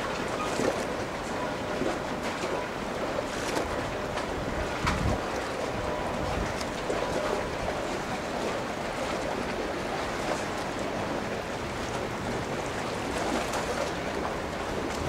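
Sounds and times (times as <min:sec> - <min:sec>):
rushing water: 0:00.0 - 0:15.0
wind: 0:00.0 - 0:15.0.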